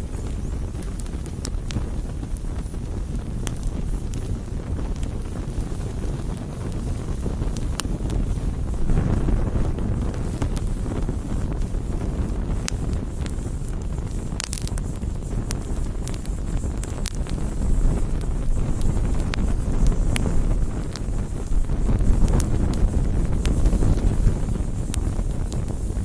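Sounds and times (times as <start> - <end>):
burning wood crackling and popping: 0.0 - 26.0
campfire flames rumbling: 0.0 - 26.0.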